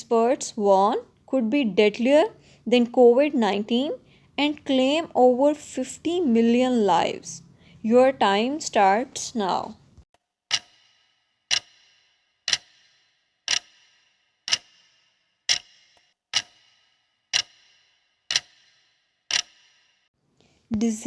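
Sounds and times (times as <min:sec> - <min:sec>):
clock ticking: 0:00.0 - 0:09.8, 0:10.5 - 0:19.9.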